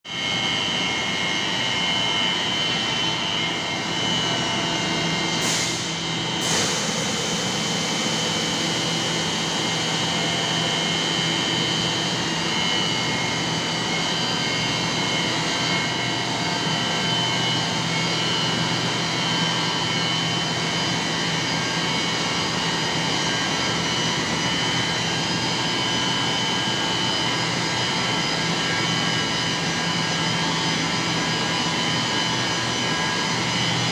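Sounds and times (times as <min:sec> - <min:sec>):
pumps running with high whine: 0:00.1 - 0:33.9.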